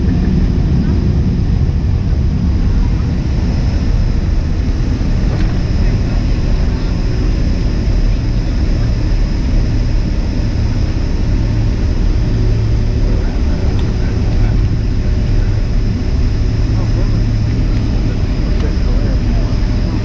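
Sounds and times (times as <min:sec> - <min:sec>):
faint high engine whine: 0:00.0 - 0:20.0
jet engine roar in cabin: 0:00.0 - 0:20.0.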